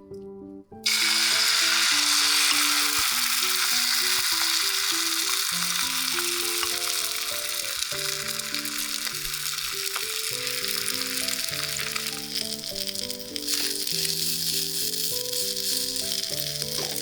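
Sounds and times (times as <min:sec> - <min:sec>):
background music held notes: 0:00.0 - 0:17.0
food sizzling in hot fat: 0:00.8 - 0:17.0.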